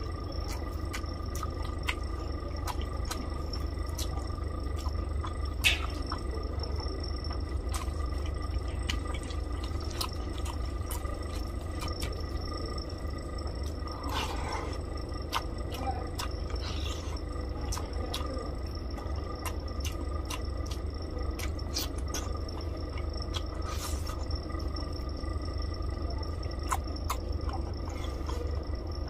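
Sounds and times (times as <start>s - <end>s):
chewing with wet smacks: 0.0s - 29.0s
steady low hum: 0.0s - 29.0s.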